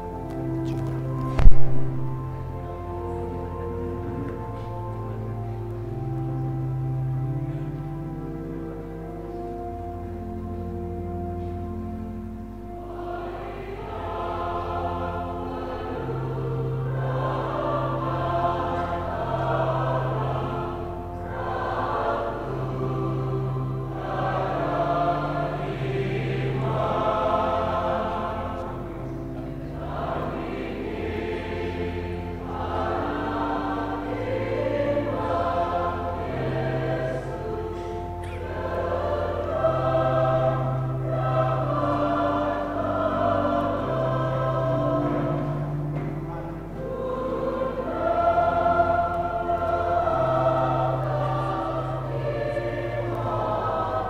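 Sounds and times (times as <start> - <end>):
choir singing a hymn: 0.0 - 54.0
held bass notes accompaniment: 0.0 - 54.0.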